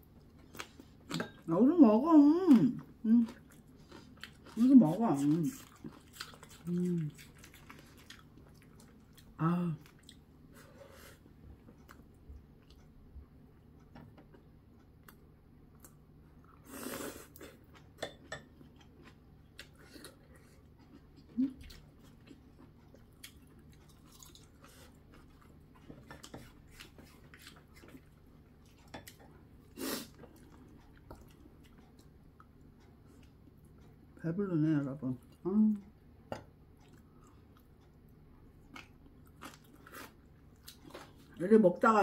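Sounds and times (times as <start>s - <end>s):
person chewing: 0.2s - 1.4s, 2.8s - 13.0s, 14.1s - 34.0s, 36.7s - 41.4s.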